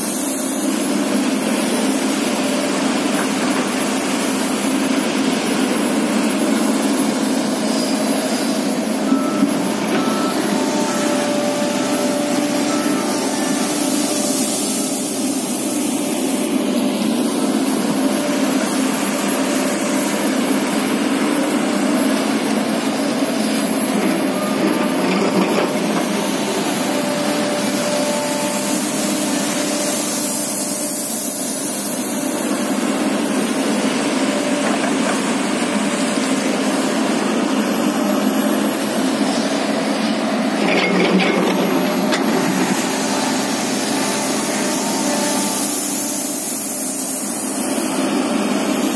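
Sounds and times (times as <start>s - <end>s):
excavator diesel engine droning: 0.0s - 48.9s.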